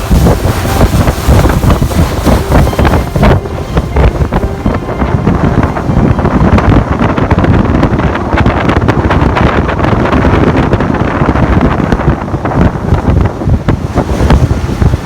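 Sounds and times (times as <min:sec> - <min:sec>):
motorboat moving at speed: 0:00.0 - 0:15.0
wind buffeting microphone: 0:00.0 - 0:15.0.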